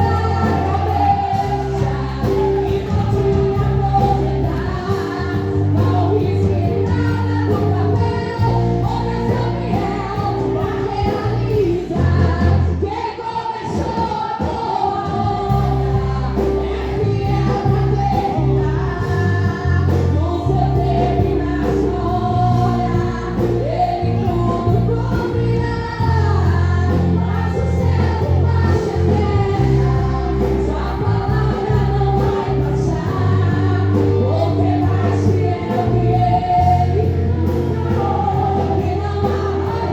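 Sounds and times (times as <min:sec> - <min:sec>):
band with heavy bass: 0:00.0 - 0:13.0, 0:13.7 - 0:39.9
choir singing gospel song: 0:00.0 - 0:39.9.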